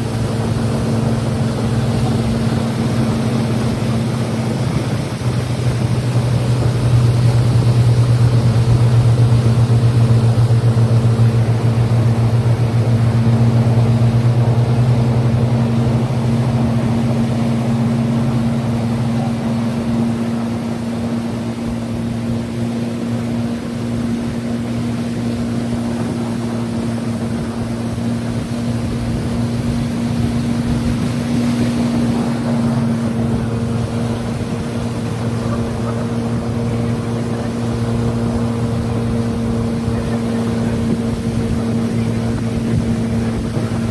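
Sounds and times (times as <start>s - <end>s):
motorboat engine hum: 0.0s - 43.9s
rush of water and air: 0.0s - 43.9s.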